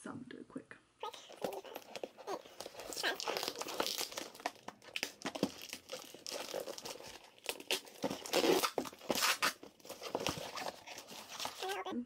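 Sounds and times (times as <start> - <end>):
cardboard box tearing: 1.0 - 11.9.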